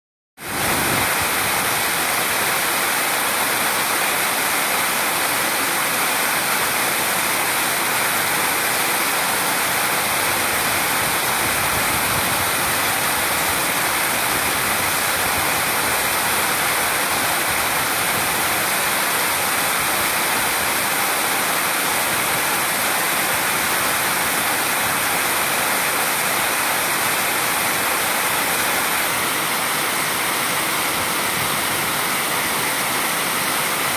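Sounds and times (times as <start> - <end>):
water rushing over a weir: 0.4 - 33.9.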